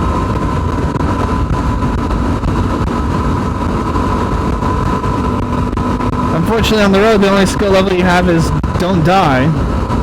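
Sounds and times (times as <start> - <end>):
motorcycle engine cruising: 0.0 - 10.0
wind and road noise rumble: 0.0 - 10.0.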